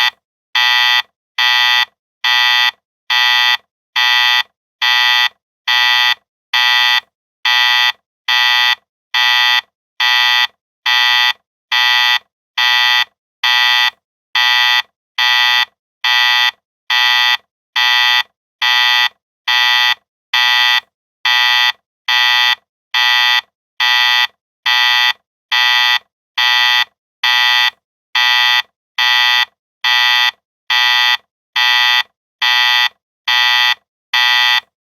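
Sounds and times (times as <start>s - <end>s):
electronic buzzer beeping: 0.0s - 34.6s.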